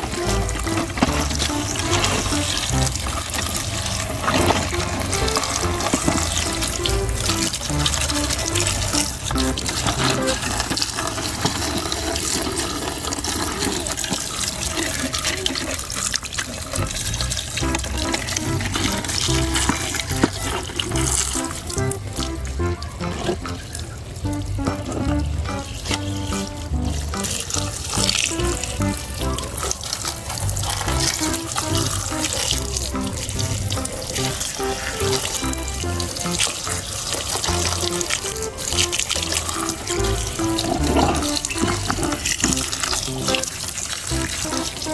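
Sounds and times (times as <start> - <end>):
background music: 0.0 - 11.7, 16.8 - 44.9
water running and splashing: 0.0 - 44.9.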